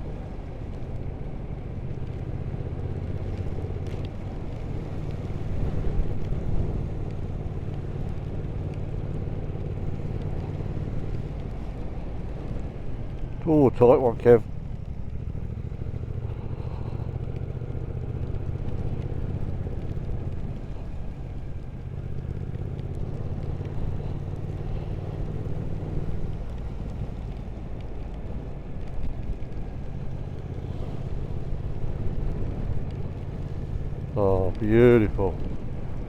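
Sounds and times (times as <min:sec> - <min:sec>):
motorcycle engine running: 0:00.0 - 0:36.0
wind and road noise: 0:00.0 - 0:36.0.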